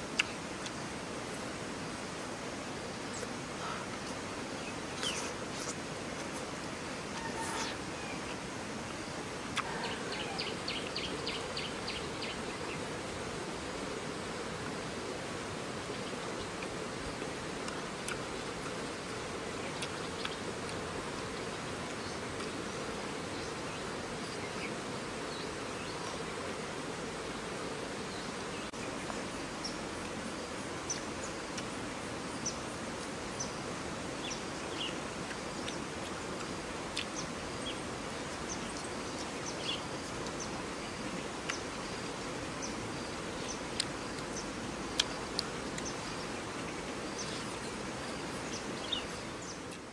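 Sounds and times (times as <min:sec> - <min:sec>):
insect buzz: 0:00.0 - 0:49.9.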